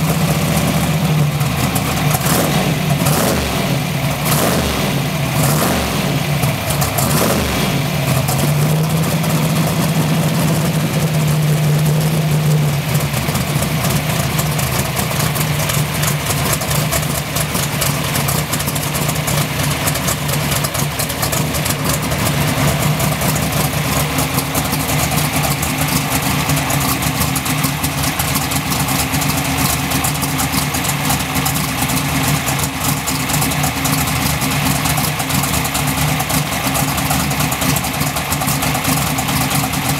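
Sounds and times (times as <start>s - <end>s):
turbo engine idling: 0.0s - 39.9s.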